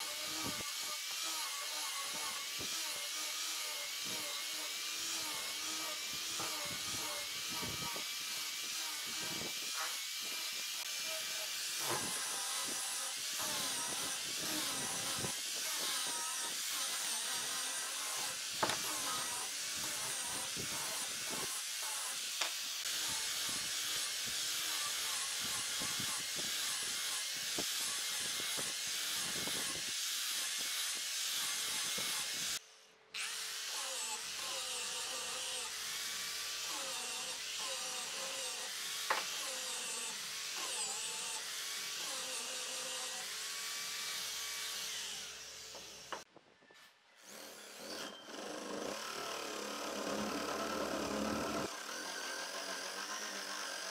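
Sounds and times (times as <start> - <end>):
angle grinder sanding wood: 0.0 - 32.6, 33.2 - 46.3, 47.2 - 53.9.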